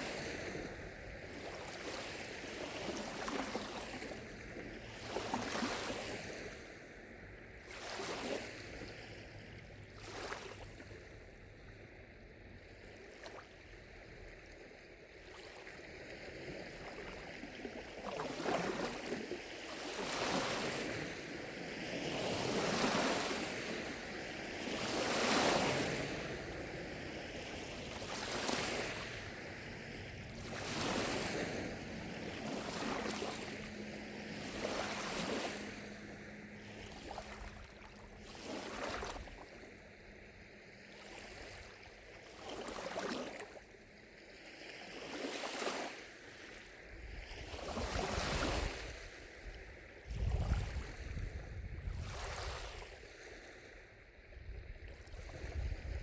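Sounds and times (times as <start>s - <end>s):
lake waves lapping shore: 0.0s - 56.0s.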